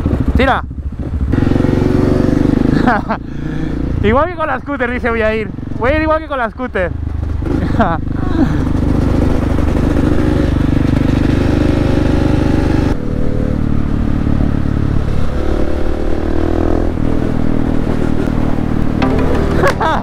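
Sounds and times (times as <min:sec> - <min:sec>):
motorcycle engine running: 0:00.0 - 0:15.2, 0:16.1 - 0:20.0.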